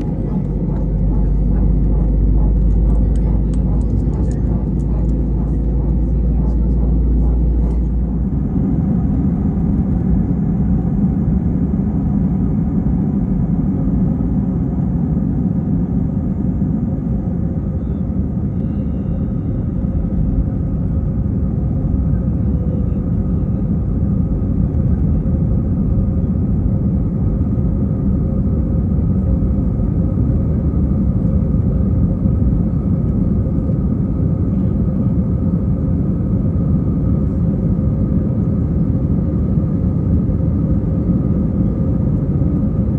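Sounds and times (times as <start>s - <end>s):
jet engine rumble in cabin: 0.0s - 42.9s.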